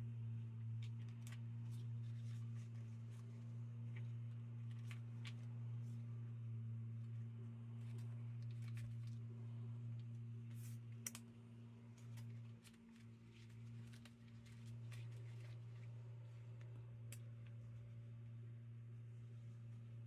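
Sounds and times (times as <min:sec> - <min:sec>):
low hum: 0:00.0 - 0:20.0
paper labels rustling and clicking: 0:00.8 - 0:06.2, 0:07.0 - 0:17.9.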